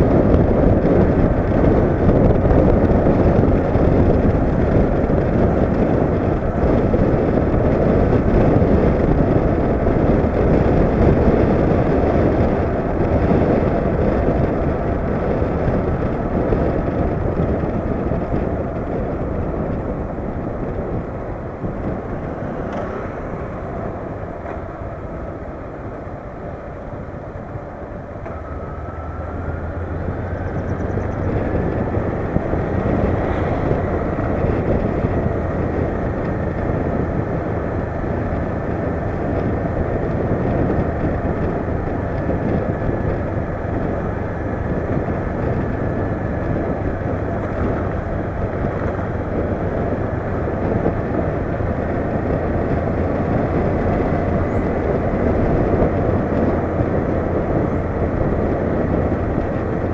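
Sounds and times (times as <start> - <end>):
motorcycle engine running: 0.0 - 59.9
wind rush: 0.0 - 59.9.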